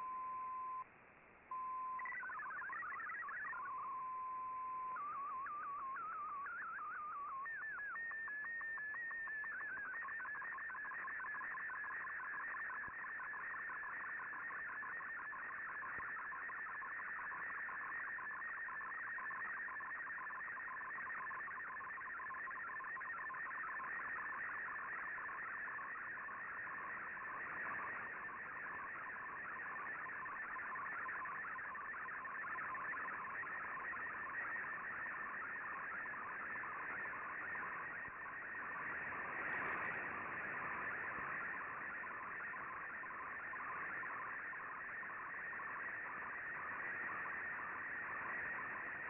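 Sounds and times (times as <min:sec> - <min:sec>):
rapidly fluttering data tone: 0:00.0 - 0:00.9, 0:01.5 - 0:49.0
radio band hiss: 0:02.3 - 0:49.0.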